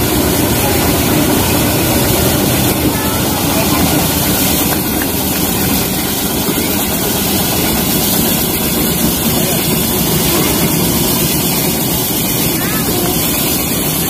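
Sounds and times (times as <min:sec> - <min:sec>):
train locomotive engine running: 0:00.0 - 0:14.0.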